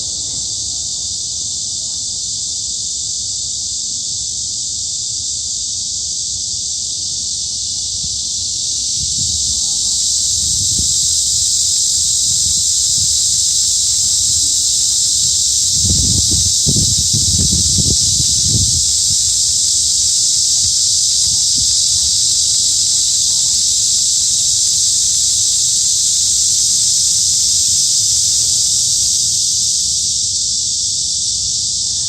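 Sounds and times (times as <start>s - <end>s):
cicadas buzzing: 0.0s - 32.0s.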